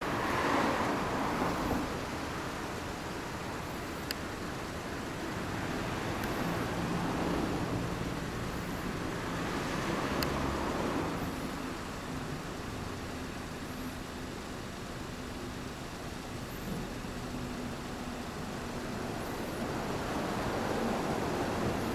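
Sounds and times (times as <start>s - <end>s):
passing vehicles: 0.0s - 21.9s.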